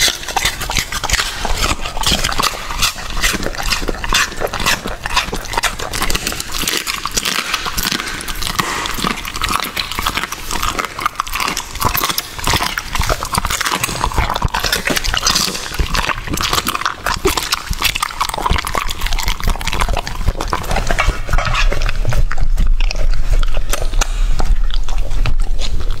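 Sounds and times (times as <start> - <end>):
dog chewing and crunching: 0.0 - 26.0
dog licking metal tray: 0.0 - 26.0.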